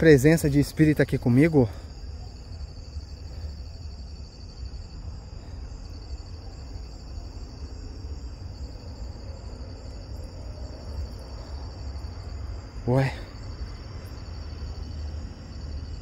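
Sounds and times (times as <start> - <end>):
crickets chirring: 0.0 - 16.0
steady low rumble: 0.0 - 16.0.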